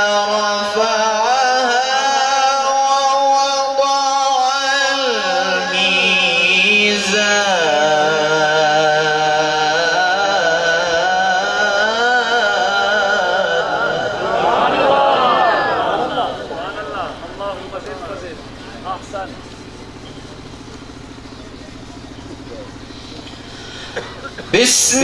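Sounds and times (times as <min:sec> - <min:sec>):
man reciting melismatic chant: 0:00.0 - 0:25.0.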